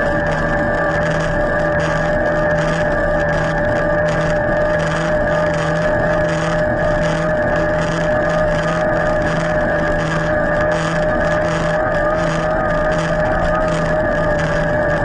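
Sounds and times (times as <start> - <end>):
electric bike motor whining: 0.0 - 15.0
pulsing low hum: 0.0 - 15.0.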